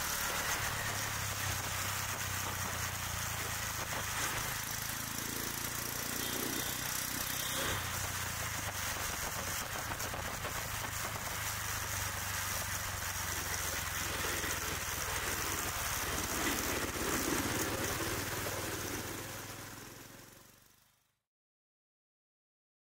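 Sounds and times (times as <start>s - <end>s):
motorcycles and scooters passing: 0.0s - 21.0s.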